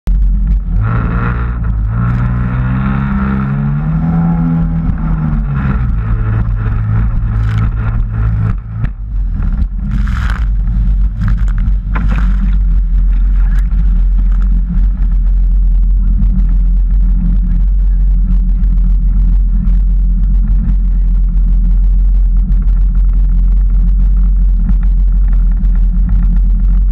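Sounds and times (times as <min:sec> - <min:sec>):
jet ski engine accelerating: 0:00.1 - 0:26.9.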